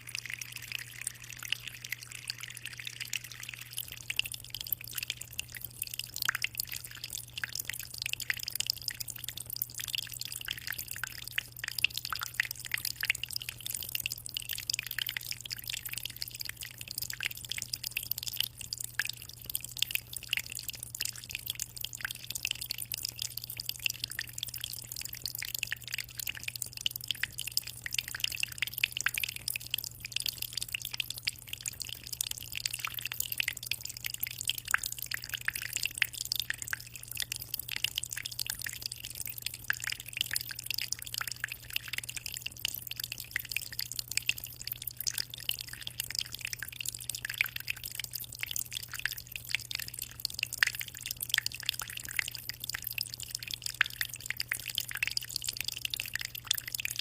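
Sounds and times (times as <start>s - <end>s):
aquarium water trickling: 0.0s - 57.0s.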